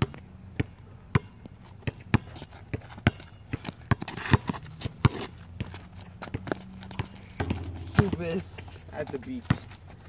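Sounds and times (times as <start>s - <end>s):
basketball bouncing on asphalt: 0.0s - 10.0s.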